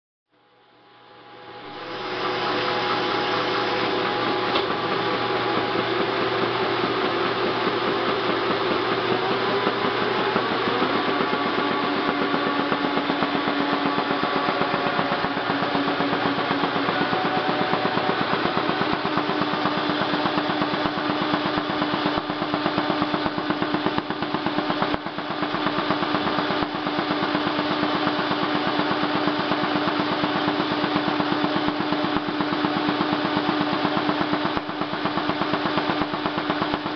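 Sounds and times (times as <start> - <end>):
motor hum: 0.4 - 36.9.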